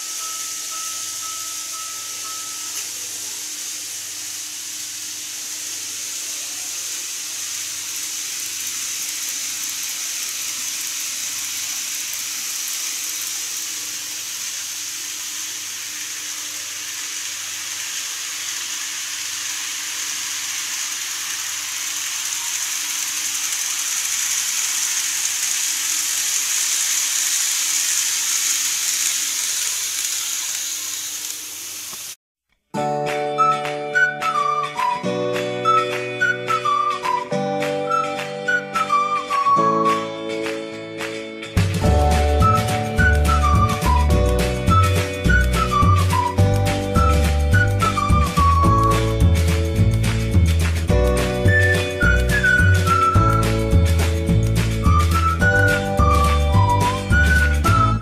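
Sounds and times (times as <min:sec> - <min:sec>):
model electric train whirring: 0:00.0 - 0:32.2, 0:41.7 - 0:58.0.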